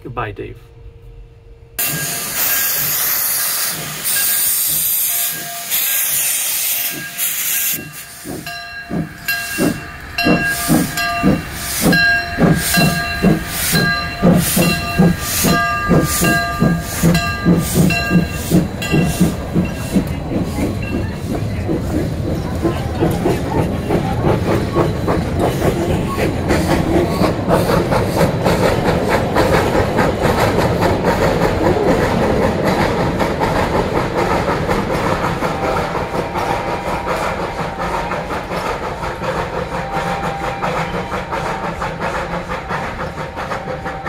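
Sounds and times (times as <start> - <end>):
locomotive chuffing: 1.6 - 44.0
model steam locomotive hissing: 1.8 - 44.0.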